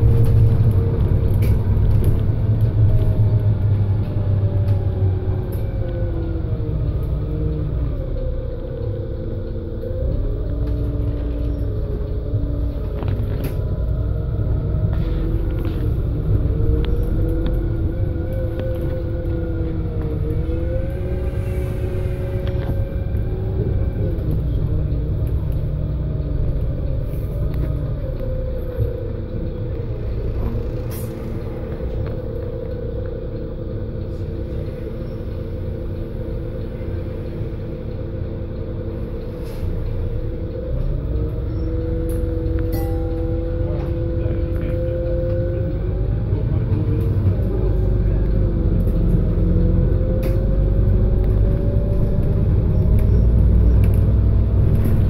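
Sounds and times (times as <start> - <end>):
bus engine low rumble: 0.0 - 55.0
drivetrain whine: 0.0 - 55.0.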